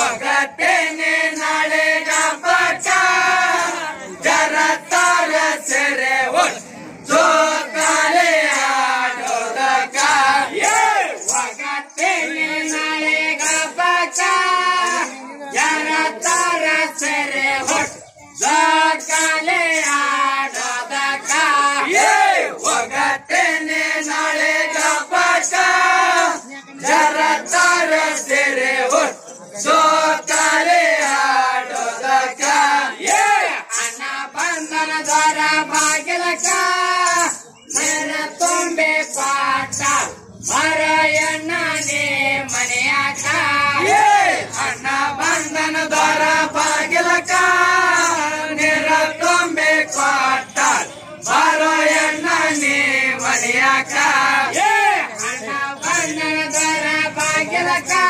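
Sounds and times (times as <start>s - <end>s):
group of voices singing in chorus: 0.0s - 58.0s.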